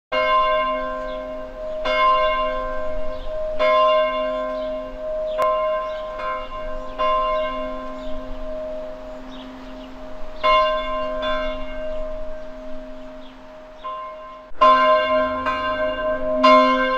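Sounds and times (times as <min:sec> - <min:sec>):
church bell tolling: 0:00.1 - 0:16.9
birds chirping faintly: 0:00.7 - 0:14.6.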